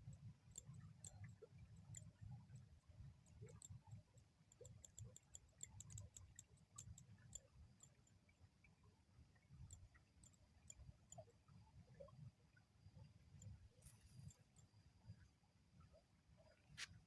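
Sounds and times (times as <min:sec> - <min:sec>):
faint high-pitched ticks: 0:00.0 - 0:17.0.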